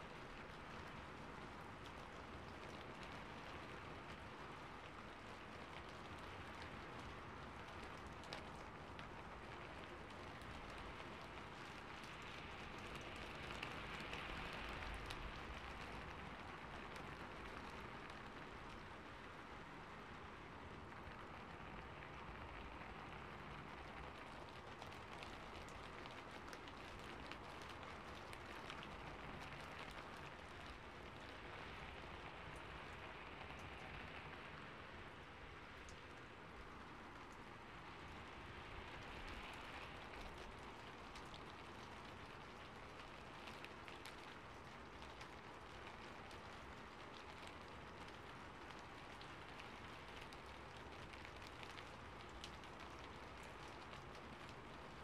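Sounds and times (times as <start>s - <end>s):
faint steady rain: 0.0s - 55.0s.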